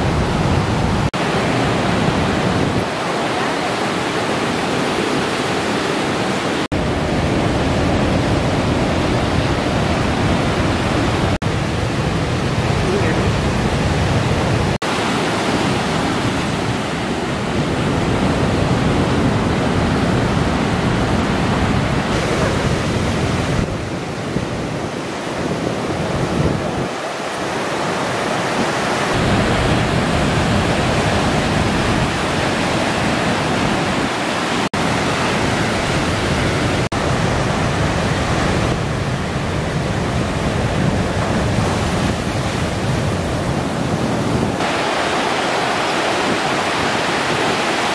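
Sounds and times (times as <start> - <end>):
ocean surf breaking: 0.0 - 47.9
wind buffeting microphone: 0.0 - 47.9.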